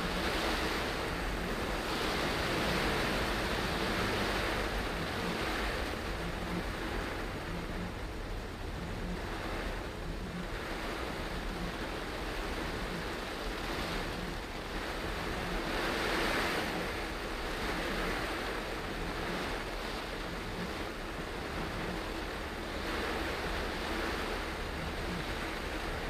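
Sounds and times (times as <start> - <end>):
heavy rain on car: 0.0 - 26.0
tyres on flooded road: 0.0 - 26.0.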